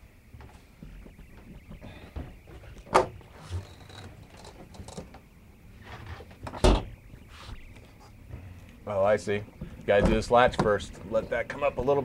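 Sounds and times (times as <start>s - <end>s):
camper panels clunking: 0.4s - 8.5s, 9.4s - 11.9s.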